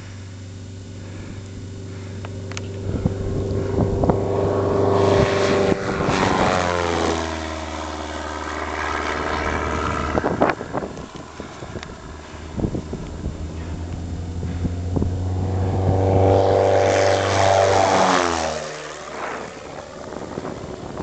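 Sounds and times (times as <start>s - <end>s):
light aircraft engine fly-by: 0.0s - 21.0s.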